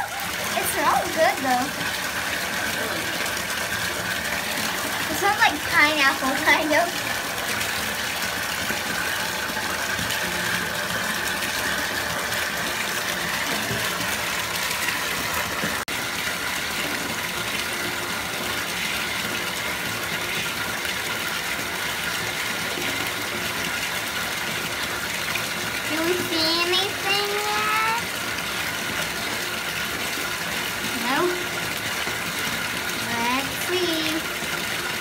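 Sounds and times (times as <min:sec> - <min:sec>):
tap water gushing into bathtub: 0:00.0 - 0:35.0.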